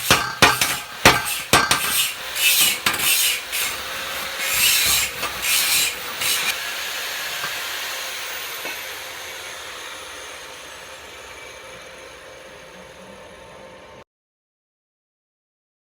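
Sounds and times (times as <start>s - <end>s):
harsh hiss: 0.0s - 14.0s.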